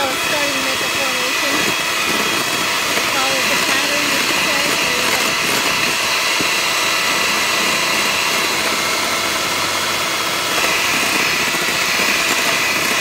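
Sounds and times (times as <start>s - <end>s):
electric hand mixer whirring: 0.0s - 13.0s.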